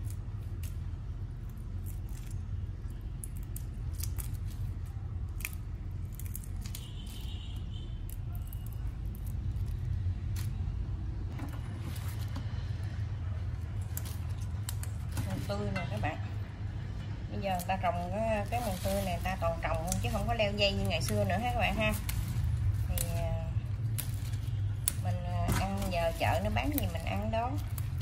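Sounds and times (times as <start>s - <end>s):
shrimp shells being peeled: 0.0s - 15.6s, 17.3s - 28.0s.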